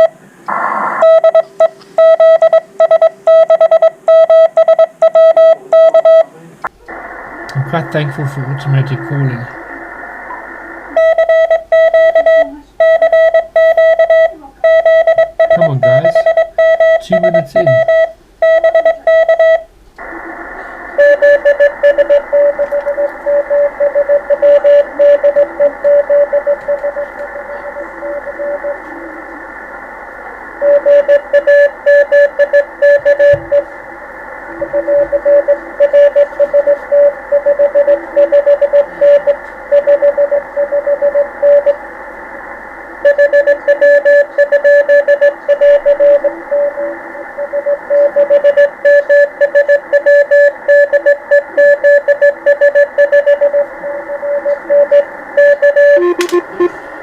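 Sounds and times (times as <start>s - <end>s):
radio band hiss: 0.0s - 2.3s, 5.4s - 12.8s, 15.3s - 19.2s, 20.0s - 57.0s
faint lower-pitched signal: 0.0s - 6.3s, 6.9s - 57.0s
morse code beeping: 1.0s - 6.3s, 11.0s - 19.7s, 21.0s - 28.8s, 30.6s - 33.7s, 34.6s - 41.8s, 43.0s - 56.8s.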